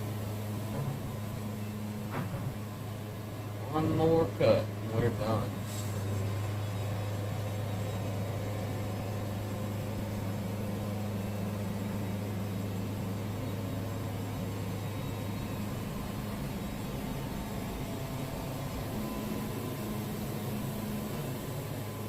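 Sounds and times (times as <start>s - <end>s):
band sawmill humming: 0.0s - 22.0s.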